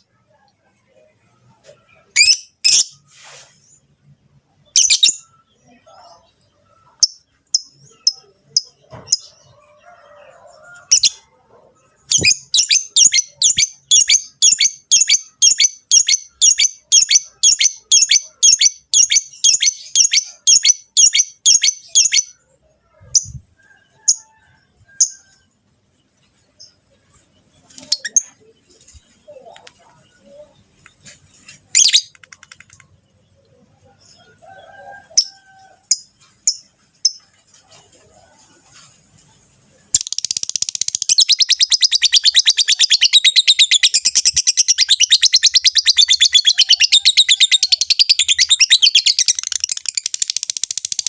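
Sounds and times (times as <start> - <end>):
lovebirds chirping: 0.0 - 24.2, 24.9 - 51.0.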